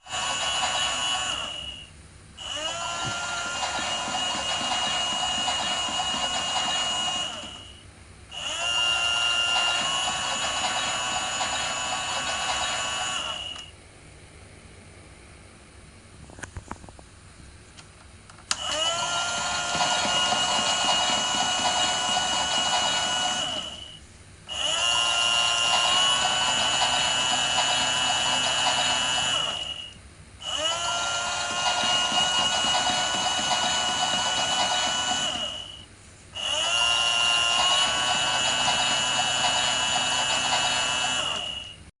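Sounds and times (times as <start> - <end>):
toy washing machine motor whine: 0.0 - 13.7, 18.5 - 41.9.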